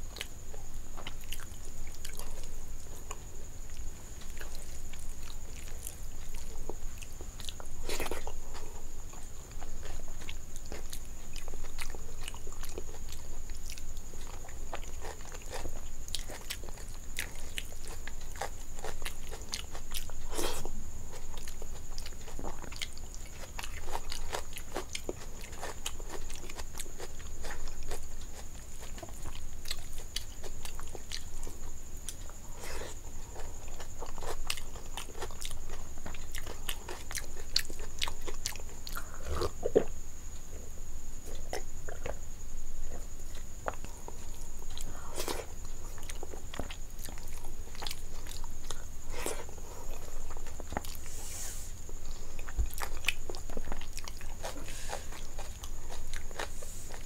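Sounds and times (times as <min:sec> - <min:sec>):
chewing with wet mouth clicks: 0:00.1 - 0:39.9, 0:42.9 - 0:51.1, 0:51.8 - 0:57.0.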